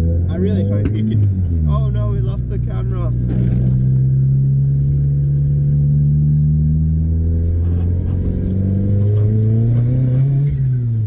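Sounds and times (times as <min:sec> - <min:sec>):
car engine droning inside cabin: 0:00.0 - 0:11.0.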